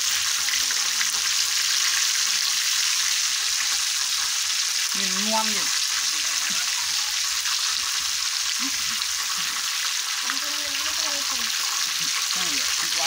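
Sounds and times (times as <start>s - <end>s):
frogs sizzling in hot oil: 0.0s - 13.0s.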